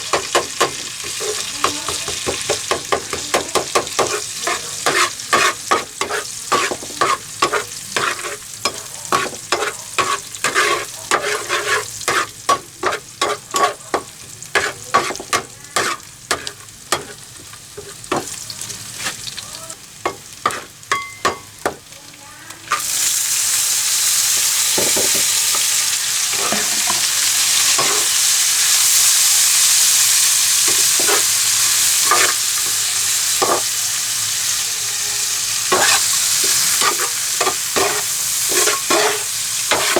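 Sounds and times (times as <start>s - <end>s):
utensil scraping in a pan: 0.0s - 19.5s, 20.1s - 21.6s, 22.6s - 23.2s, 24.4s - 33.9s, 35.0s - 39.9s
food sizzling in hot oil: 0.0s - 39.9s.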